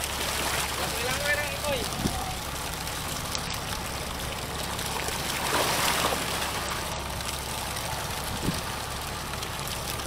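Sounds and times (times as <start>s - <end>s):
boat engine idling hum: 0.0s - 10.0s
water sloshing against boat hull: 0.0s - 10.0s.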